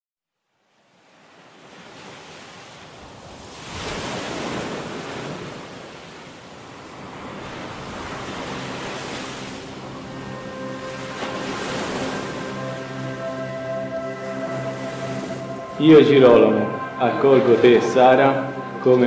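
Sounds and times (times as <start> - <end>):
sea waves washing ashore: 0.7 - 19.0.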